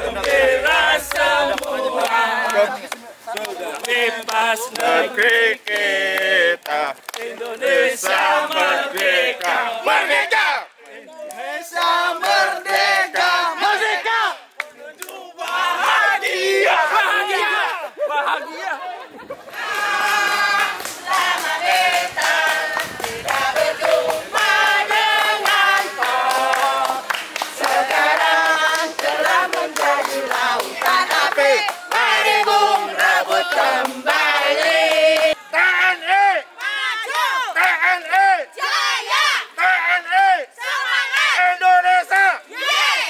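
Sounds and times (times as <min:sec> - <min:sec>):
group of voices chanting: 0:00.0 - 0:14.4, 0:15.0 - 0:18.0, 0:19.5 - 0:43.0.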